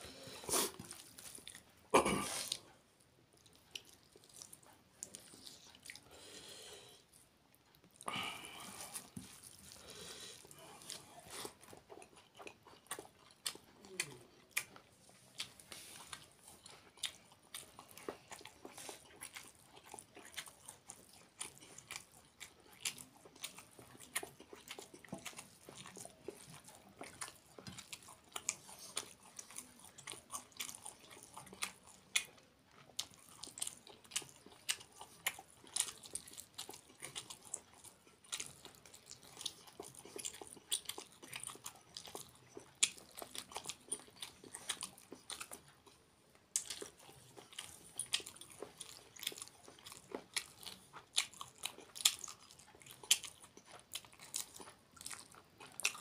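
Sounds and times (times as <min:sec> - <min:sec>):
wet chewing: 0:00.1 - 0:06.4, 0:07.1 - 0:56.0.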